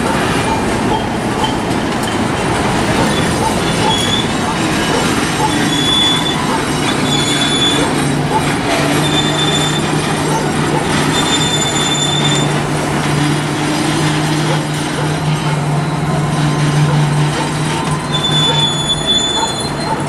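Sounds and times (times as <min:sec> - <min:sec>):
freight train wheels rumbling on rail: 0:00.0 - 0:20.0
high-pitched wheel squeals: 0:00.4 - 0:02.3, 0:03.0 - 0:14.7, 0:15.3 - 0:20.0.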